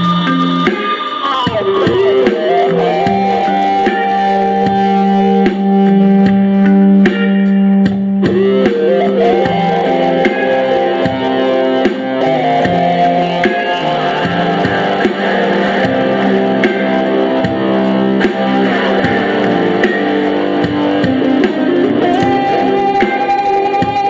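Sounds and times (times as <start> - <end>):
guitar: 0.0 - 24.0
steady percussive beat: 0.0 - 24.0.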